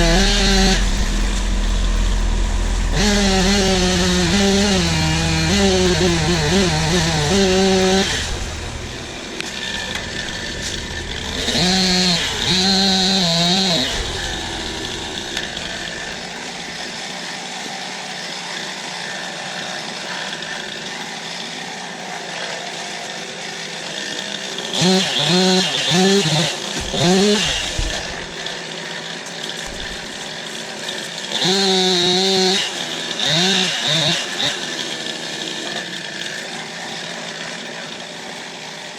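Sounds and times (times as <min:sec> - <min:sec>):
chainsaw at full throttle: 0:00.0 - 0:38.9.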